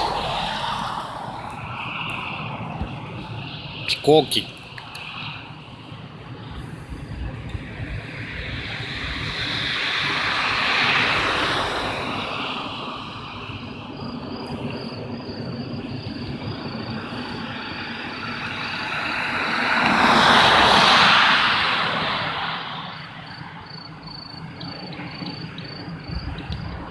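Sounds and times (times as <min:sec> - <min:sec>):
airplane flying overhead: 0:00.0 - 0:26.9.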